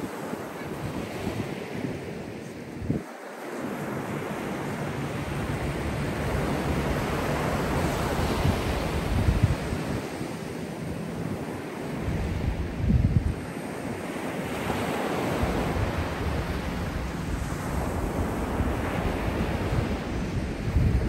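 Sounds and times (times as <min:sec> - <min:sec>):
small waves breaking on beach: 0:00.0 - 0:21.0
wind gusts on microphone: 0:00.0 - 0:21.0.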